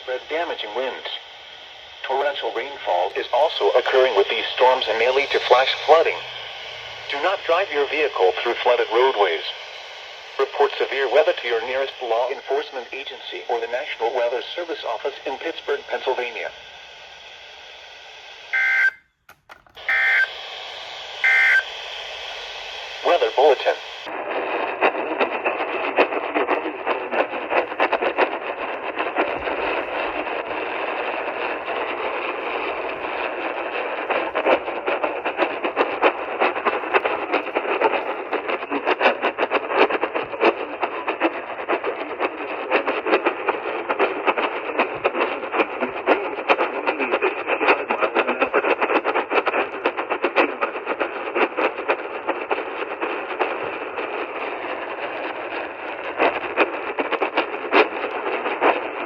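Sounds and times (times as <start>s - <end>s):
radio static hiss and crackling: 0.0s - 18.9s, 19.8s - 59.0s.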